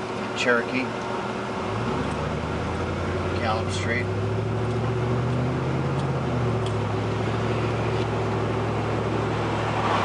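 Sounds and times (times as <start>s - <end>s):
car engine hum: 0.0s - 10.0s
road noise: 0.0s - 10.0s.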